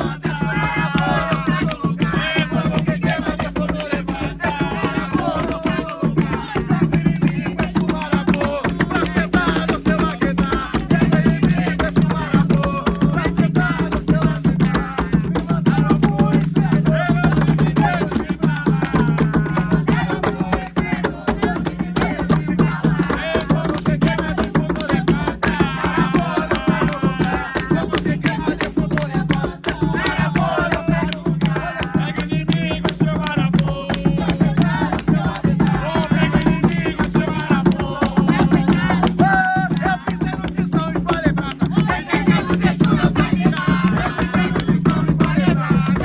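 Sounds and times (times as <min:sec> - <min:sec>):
hand drums beating: 0:00.0 - 0:46.0
voices singing: 0:00.0 - 0:46.0.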